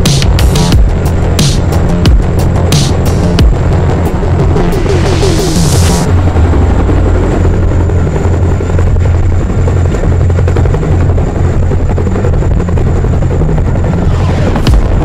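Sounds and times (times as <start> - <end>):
helicopter hovering: 0.0 - 15.0.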